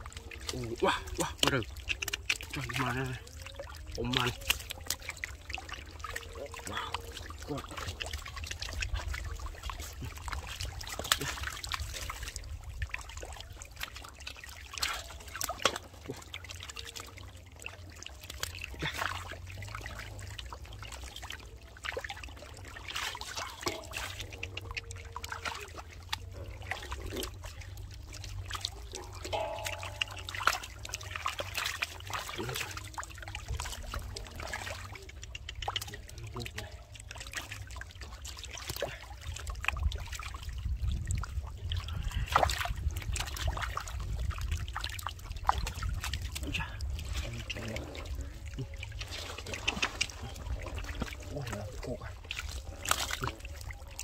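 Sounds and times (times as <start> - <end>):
floodwater trickling and splashing: 0.0 - 54.0.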